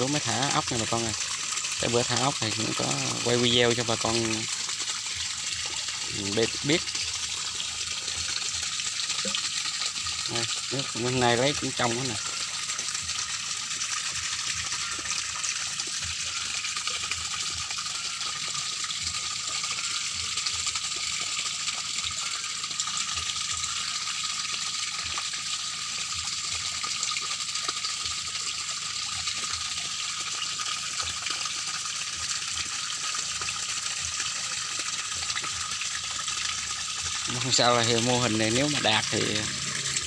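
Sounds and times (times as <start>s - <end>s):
pumped water gushing and splashing: 0.0s - 40.0s.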